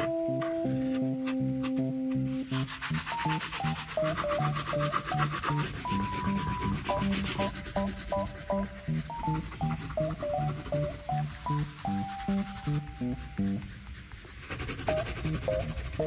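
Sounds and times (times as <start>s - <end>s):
light background music: 0.0s - 16.0s
paper rubbing and scratching: 0.0s - 16.0s.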